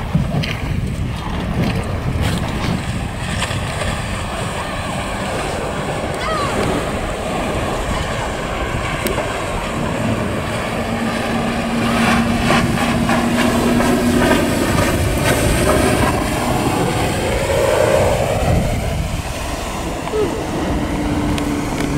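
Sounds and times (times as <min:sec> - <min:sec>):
outboard motor running: 0:00.0 - 0:21.9
water rushing off hull: 0:00.0 - 0:21.9.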